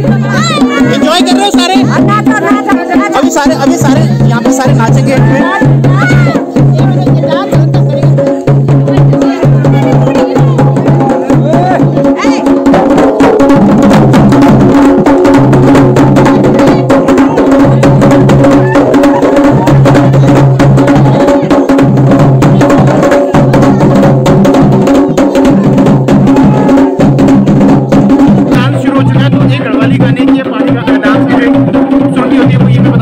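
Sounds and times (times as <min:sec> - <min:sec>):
dhol drums beaten fast: 0:00.0 - 0:33.0.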